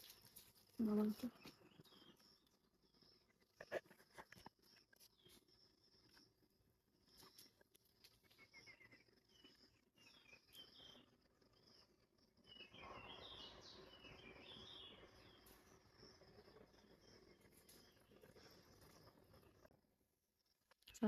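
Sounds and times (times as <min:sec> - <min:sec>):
birds chirping: 0:00.0 - 0:19.7.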